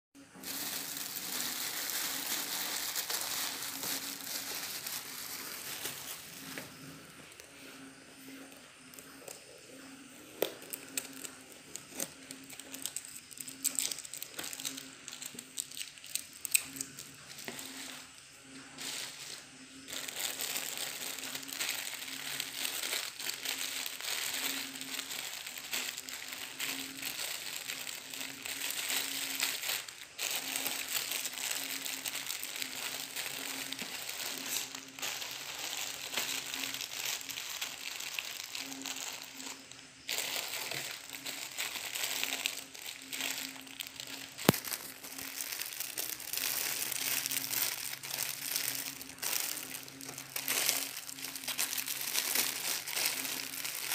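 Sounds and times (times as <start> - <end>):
plastic bags crinkling: 0.2 - 53.9.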